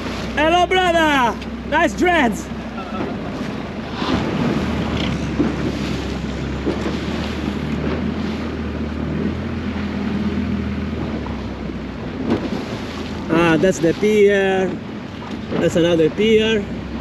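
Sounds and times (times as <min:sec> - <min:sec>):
boat engine running: 0:00.0 - 0:17.0
water rushing past hull: 0:00.0 - 0:17.0
wind buffeting microphone: 0:00.0 - 0:17.0.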